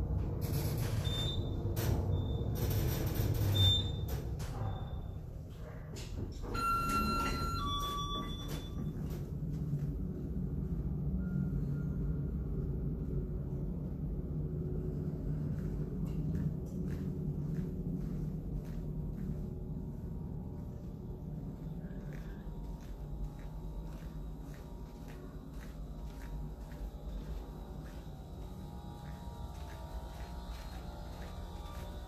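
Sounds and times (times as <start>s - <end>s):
elevator rumbling hum: 0.0s - 32.0s.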